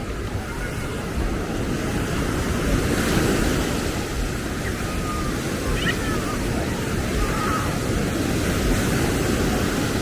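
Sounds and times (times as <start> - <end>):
surf: 0.0 - 10.0
wind buffeting microphone: 0.0 - 10.0.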